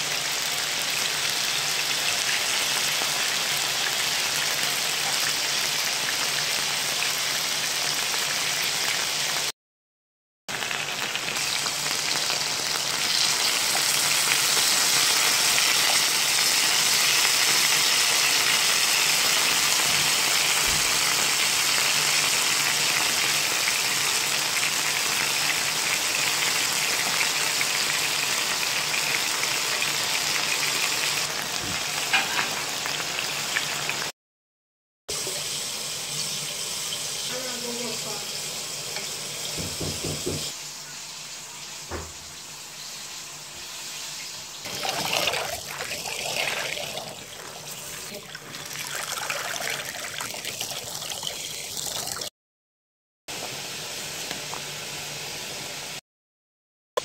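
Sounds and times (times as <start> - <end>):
chicken sizzling in hot oil: 0.0 - 9.5, 10.5 - 34.1, 35.1 - 52.3, 53.3 - 56.0.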